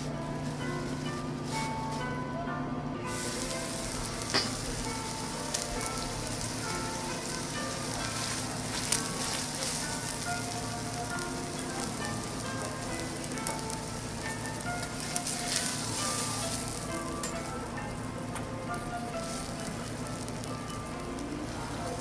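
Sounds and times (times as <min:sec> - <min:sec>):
light background music: 0:00.0 - 0:22.0
steak sizzling on a griddle: 0:03.1 - 0:22.0.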